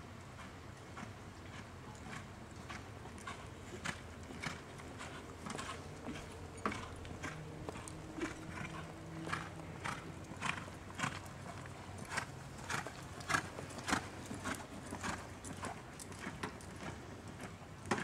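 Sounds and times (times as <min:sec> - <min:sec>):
horse hoofbeats on sand: 0:00.4 - 0:18.0.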